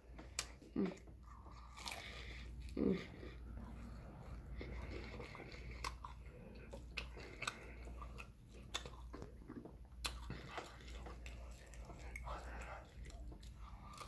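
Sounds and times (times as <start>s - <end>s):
chewing fried chicken: 0.1s - 14.0s.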